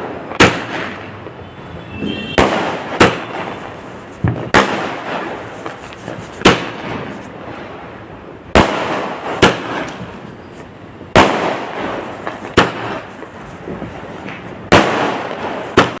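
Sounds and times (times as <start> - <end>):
fireworks crackle: 0.0 - 16.0
fireworks exploding: 0.0 - 16.0.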